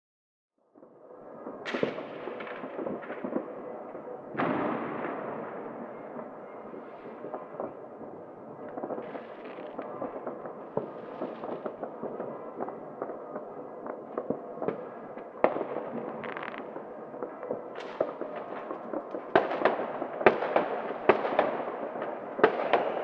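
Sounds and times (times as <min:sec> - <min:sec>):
crackle of firecrackers: 0:00.7 - 0:23.0
loud firework booms echoing: 0:01.5 - 0:23.0.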